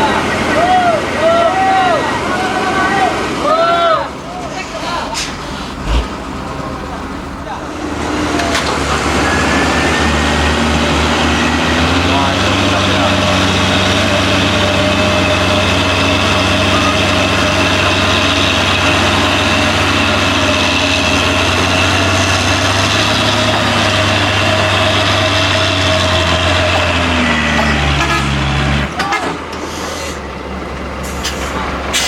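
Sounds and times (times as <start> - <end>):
diesel truck engine running: 0.0 - 32.0.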